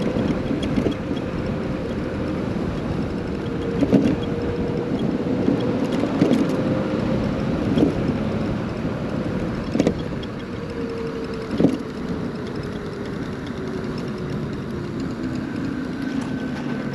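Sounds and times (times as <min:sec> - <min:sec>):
wind and road noise: 0:00.0 - 0:16.9.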